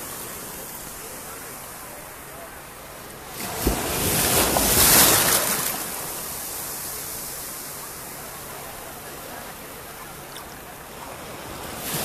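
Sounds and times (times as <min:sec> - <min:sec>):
wave washing up sand: 0:00.0 - 0:12.0.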